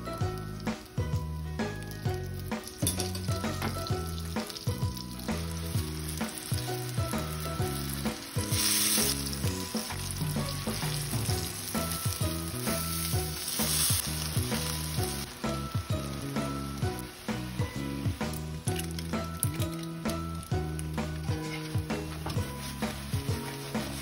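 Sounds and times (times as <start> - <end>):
background music with steady beat: 0.0 - 24.0
eggplant slices sizzling in oil: 0.0 - 24.0.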